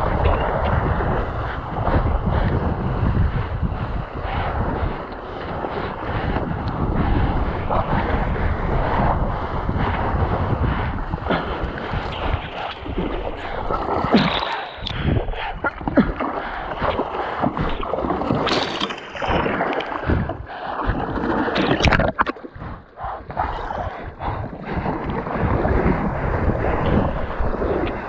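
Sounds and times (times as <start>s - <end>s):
water splashing and sloshing: 0.0s - 28.0s
wind on microphone: 0.0s - 28.0s.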